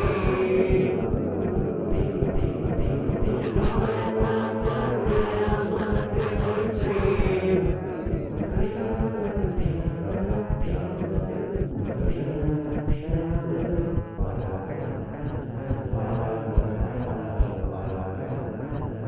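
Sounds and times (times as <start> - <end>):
crisp ticking beat: 0.0 - 19.0
voices singing in harmony: 0.0 - 19.0.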